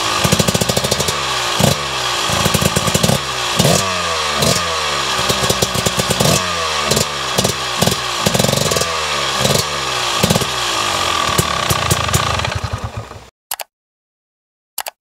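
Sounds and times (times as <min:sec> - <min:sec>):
exhaust crackles: 0:00.0 - 0:13.2
motorcycle engine revving: 0:00.0 - 0:13.3.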